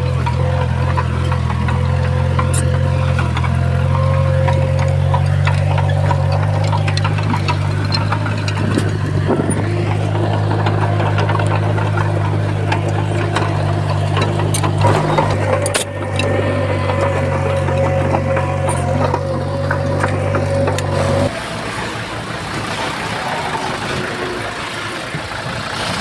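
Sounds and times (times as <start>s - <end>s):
clanks and knocks: 0.0s - 22.9s
steady whine: 0.0s - 25.3s
diesel engine running under load: 0.0s - 26.0s.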